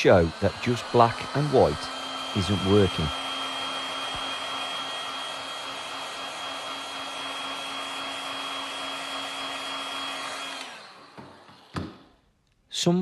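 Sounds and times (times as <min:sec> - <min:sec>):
fan winding down: 0:00.0 - 0:11.7
heat gun blowing: 0:00.0 - 0:12.0.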